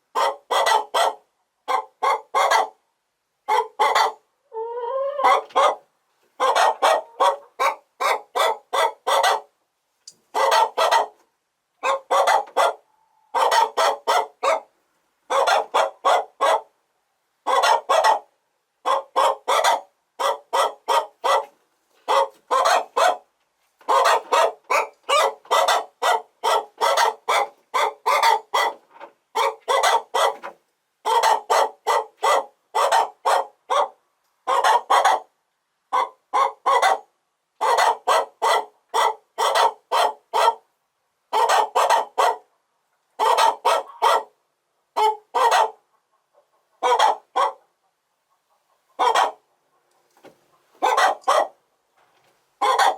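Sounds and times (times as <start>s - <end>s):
chickens clucking: 0.0s - 2.8s, 3.5s - 9.5s, 10.3s - 14.6s, 15.3s - 16.6s, 17.4s - 23.2s, 23.8s - 35.2s, 35.9s - 37.0s, 37.6s - 40.6s, 41.3s - 42.4s, 43.0s - 44.3s, 45.0s - 52.9s.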